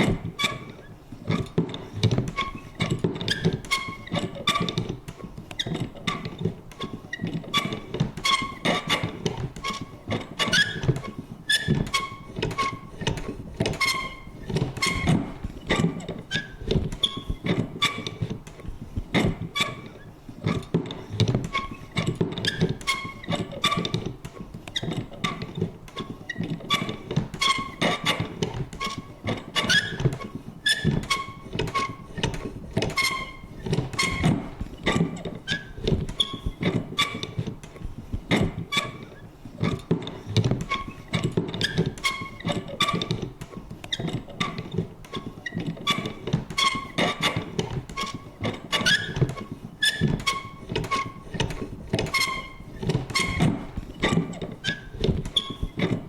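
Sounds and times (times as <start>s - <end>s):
paper punch clicking and creaking: 0.0s - 56.0s.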